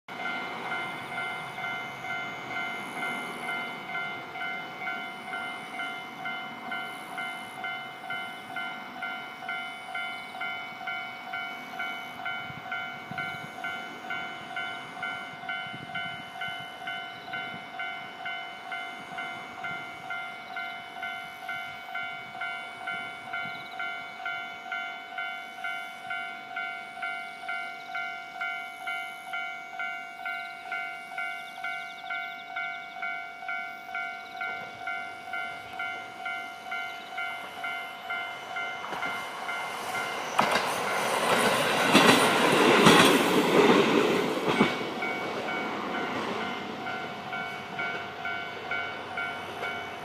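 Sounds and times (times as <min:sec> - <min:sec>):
diesel railcar engine and wheels: 0:00.1 - 0:50.0
level-crossing warning bell: 0:00.1 - 0:50.0.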